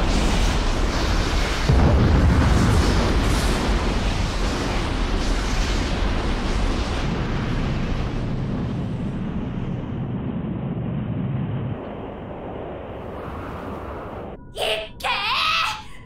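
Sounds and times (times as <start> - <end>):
heavy boom: 0.0 - 14.3
dense rumble with crackle: 0.0 - 14.4.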